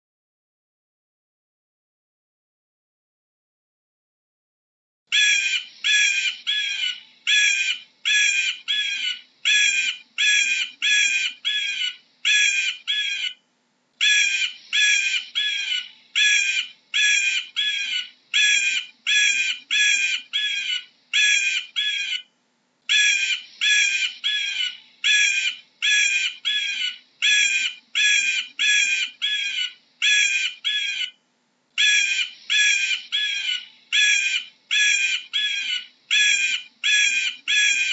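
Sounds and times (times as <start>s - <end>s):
eagle piping calls: 5.1s - 13.4s, 14.0s - 22.3s, 22.9s - 31.2s, 31.8s - 37.9s.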